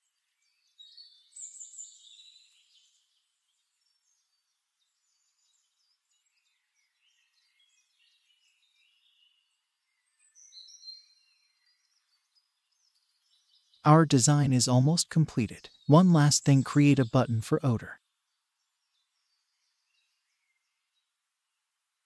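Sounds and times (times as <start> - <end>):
faint high bird chirps: 0.0 - 21.2.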